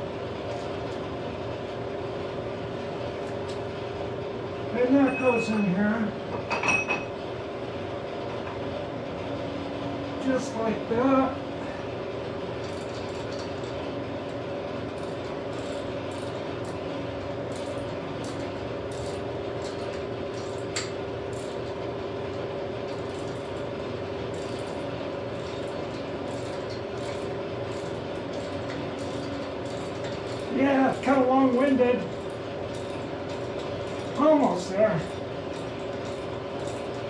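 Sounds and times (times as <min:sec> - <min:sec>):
shop machinery hum: 0:00.0 - 0:37.0.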